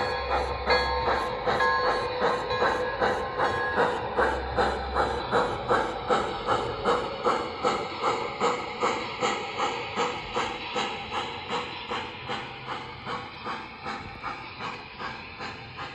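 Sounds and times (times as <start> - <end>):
model steam locomotive chuffing: 0.0 - 15.9.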